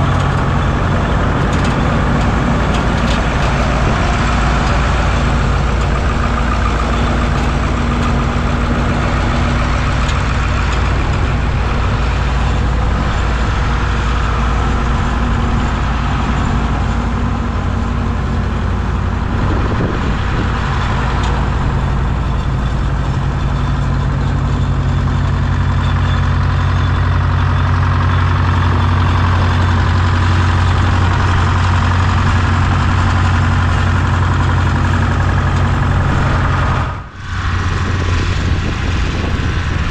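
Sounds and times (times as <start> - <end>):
tractor diesel engines idling: 0.0 - 39.9.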